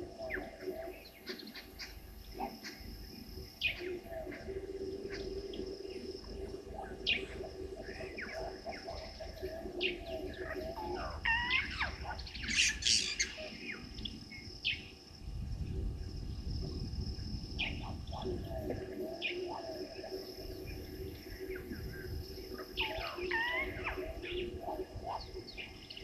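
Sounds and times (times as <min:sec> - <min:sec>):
low steady drone: 0:00.0 - 0:26.0
wild birds chirping: 0:00.0 - 0:26.0.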